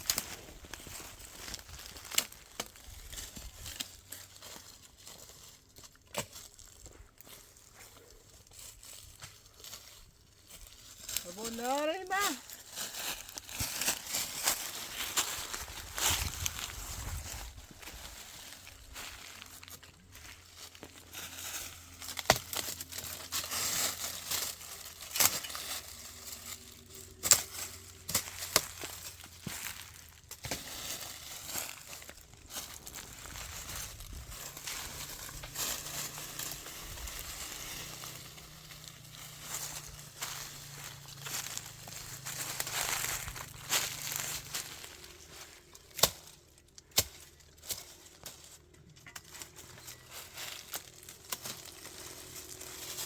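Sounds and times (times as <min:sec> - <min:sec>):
dry twigs and leaves crackling: 0:00.0 - 0:53.0
rustling and crinkling handling: 0:00.0 - 0:53.0.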